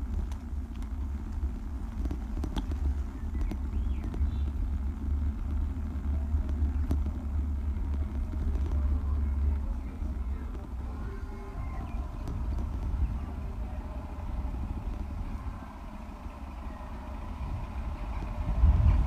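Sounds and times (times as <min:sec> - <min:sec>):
small rattles and clicks: 0:00.0 - 0:19.0
tyres rumbling on bricks: 0:00.0 - 0:19.0
wind on microphone: 0:00.9 - 0:19.0.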